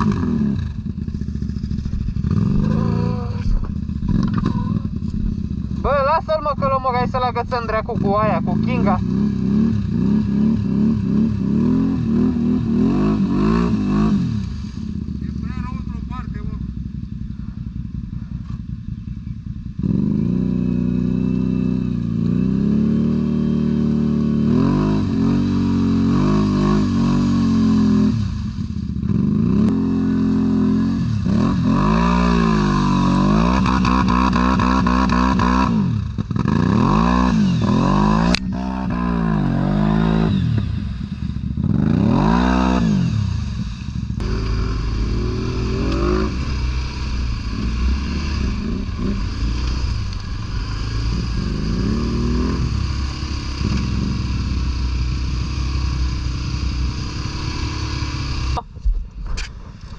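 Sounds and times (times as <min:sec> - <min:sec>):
atv engine revving: 0:00.0 - 0:58.7.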